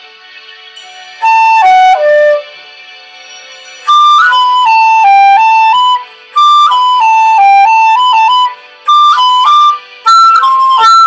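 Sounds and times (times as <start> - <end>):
concert flute melody: 0.6 - 2.9, 3.6 - 11.0.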